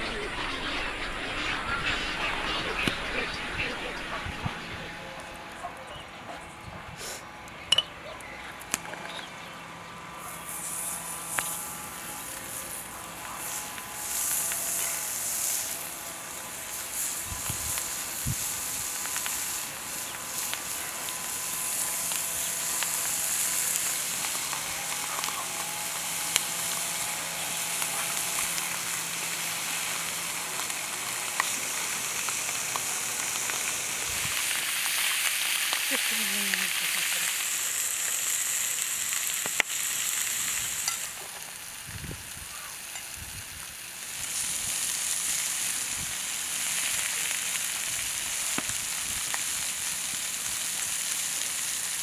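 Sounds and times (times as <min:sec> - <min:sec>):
fish sizzling: 0:10.2 - 0:52.0.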